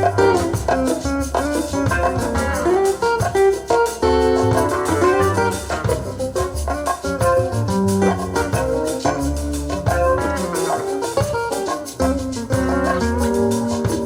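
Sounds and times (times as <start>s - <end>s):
bass line: 0.0s - 14.0s
plucked guitar: 0.0s - 14.0s.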